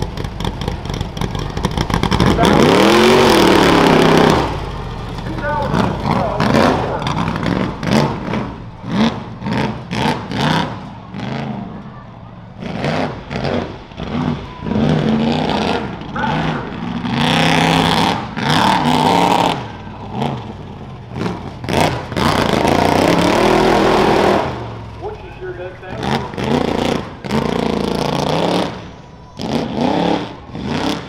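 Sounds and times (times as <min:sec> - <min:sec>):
race truck engine revving: 0:00.0 - 0:31.0.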